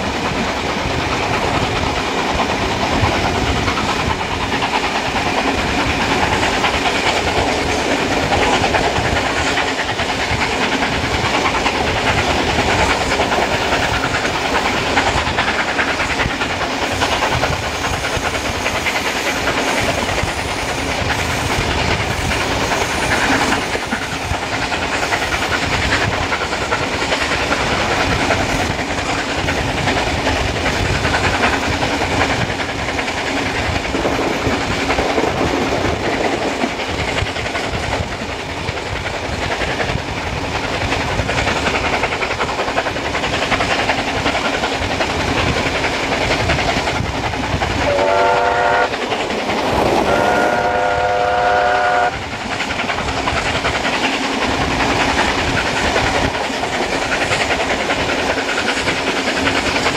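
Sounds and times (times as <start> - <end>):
steam locomotive hissing: 0.0 - 59.9
wind rushing: 0.0 - 59.9.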